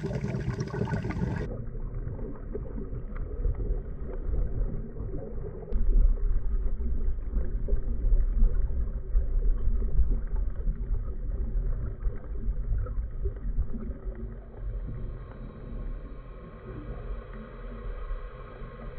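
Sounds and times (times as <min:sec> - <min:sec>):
muffled underwater rumble: 0:00.0 - 0:18.9.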